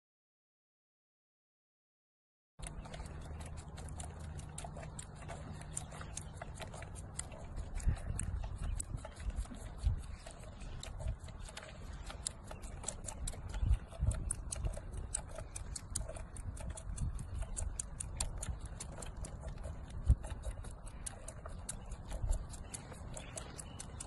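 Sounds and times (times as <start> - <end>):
goat sucking at bottle nipple: 2.6 - 24.0.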